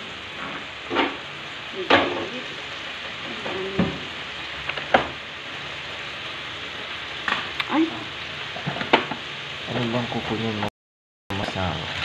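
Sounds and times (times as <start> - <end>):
food sizzling in a frying pan: 0.0 - 10.7, 11.3 - 12.0.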